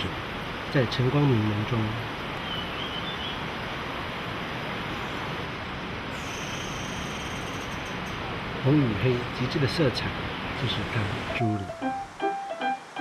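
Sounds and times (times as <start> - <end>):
creek water rushing: 0.0 - 6.6, 8.2 - 13.0.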